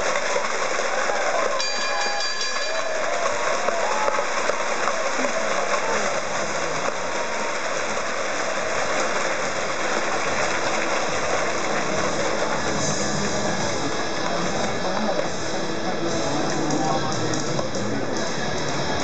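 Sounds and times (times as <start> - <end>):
crowd hubbub: 0.0 - 19.0.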